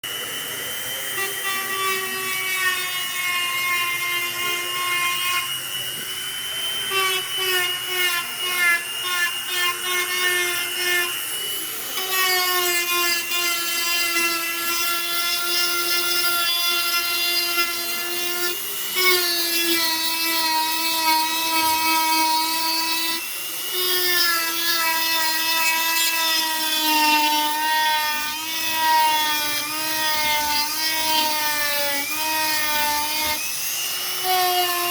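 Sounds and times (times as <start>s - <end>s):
electric power tool whining: 0.0s - 34.9s.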